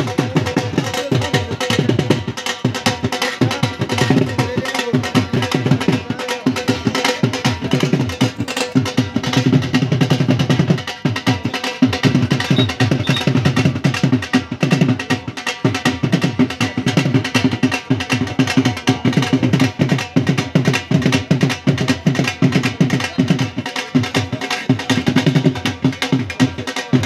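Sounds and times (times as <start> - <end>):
folk drums beaten fast: 0.0 - 27.0.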